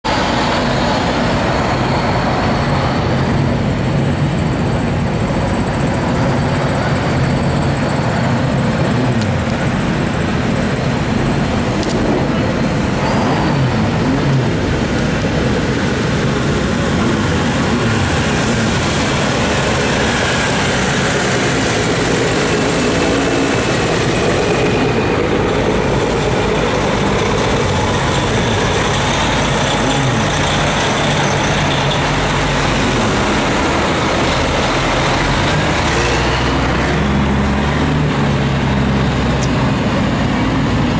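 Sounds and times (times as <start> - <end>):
heavy truck engine running: 0.0 - 40.9.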